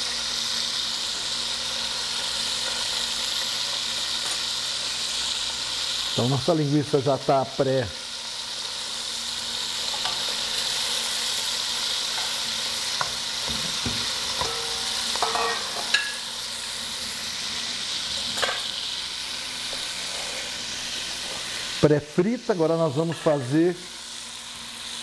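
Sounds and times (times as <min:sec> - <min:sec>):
sausage sizzling in a pot: 0:00.0 - 0:25.0.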